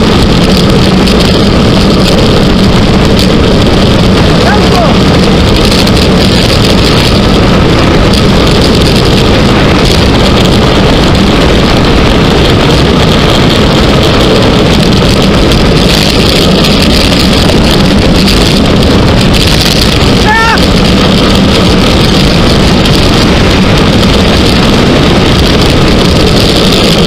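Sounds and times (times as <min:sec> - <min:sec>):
tyre noise on asphalt: 0:00.0 - 0:27.0
wind buffeting microphone: 0:00.0 - 0:27.0.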